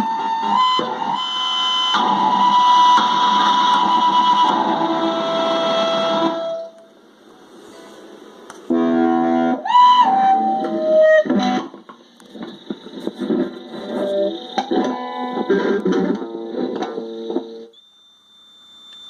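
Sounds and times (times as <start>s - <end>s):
electric guitar through effects pedal: 0.0s - 6.8s, 8.6s - 17.7s.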